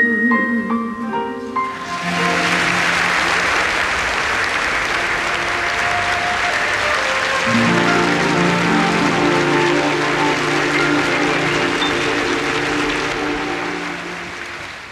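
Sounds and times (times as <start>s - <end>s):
orchestra sustained chords: 1.4s - 14.9s
audience applauding: 1.7s - 14.9s.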